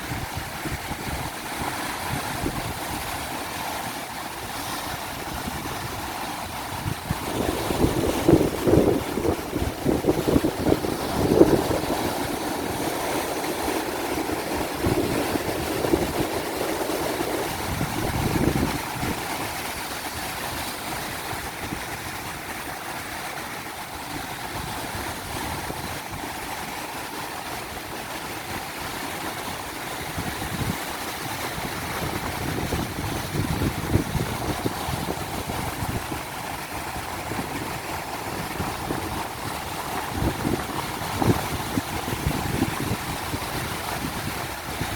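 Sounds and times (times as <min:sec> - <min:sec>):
wind buffeting microphone: 0:00.0 - 0:22.7, 0:23.8 - 0:44.9
ocean surf washing on beach: 0:00.0 - 0:44.9.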